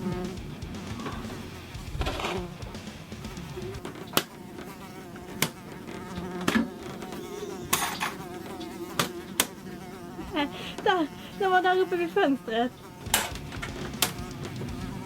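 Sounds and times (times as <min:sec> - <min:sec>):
fly buzzing: 0:00.0 - 0:15.0.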